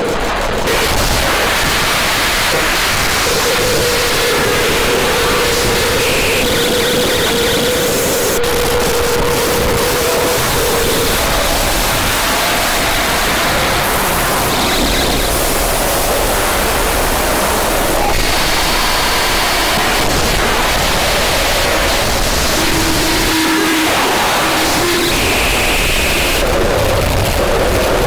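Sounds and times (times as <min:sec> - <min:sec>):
harsh digital noise music: 0:00.0 - 0:28.0.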